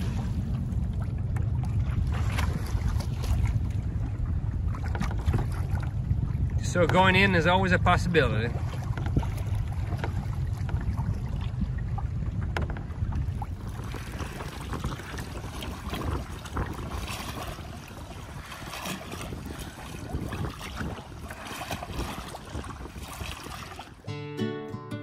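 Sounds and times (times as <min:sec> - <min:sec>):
wind buffeting microphone: 0:00.0 - 0:24.0
paddle splashes: 0:00.0 - 0:24.2
water lapping against canoe hull: 0:00.0 - 0:24.2.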